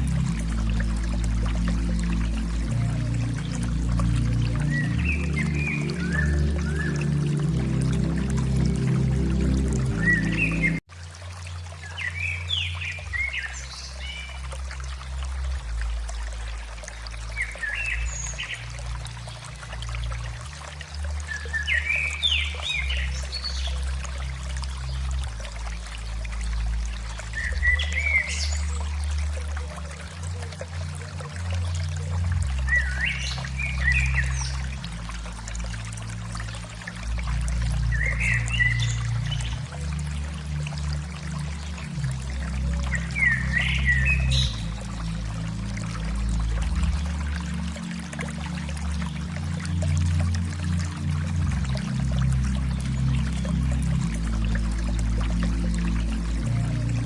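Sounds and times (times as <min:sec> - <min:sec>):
calm music with low notes: 0:00.0 - 0:57.0.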